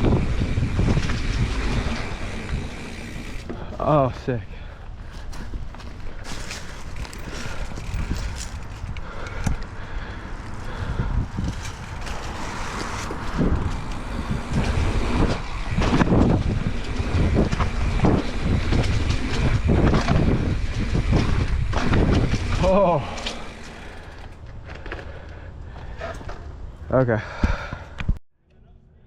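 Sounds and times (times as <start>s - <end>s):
bicycle knocks and rattles: 0.0s - 10.1s, 10.8s - 26.6s
wind rushing over microphone: 0.0s - 23.9s
tyres rolling on dirt trail: 0.0s - 28.0s.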